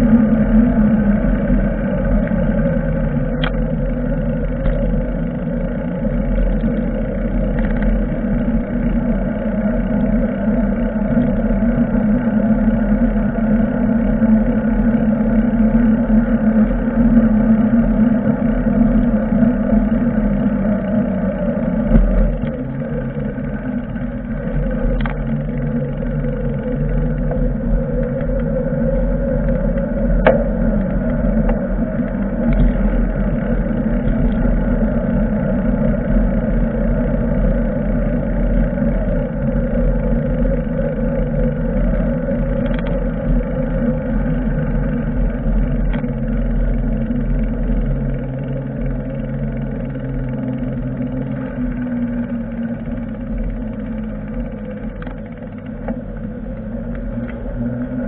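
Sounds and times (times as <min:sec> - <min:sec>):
road noise: 0:00.0 - 0:58.0
wind rumble: 0:00.0 - 0:58.0.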